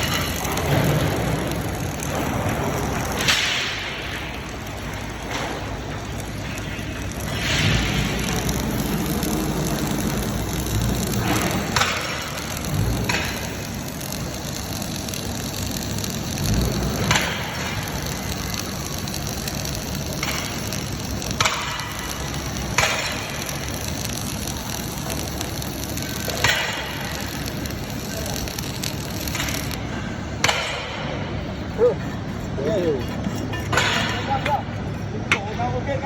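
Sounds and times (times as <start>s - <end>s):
welding arc crackling: 0.0s - 36.0s.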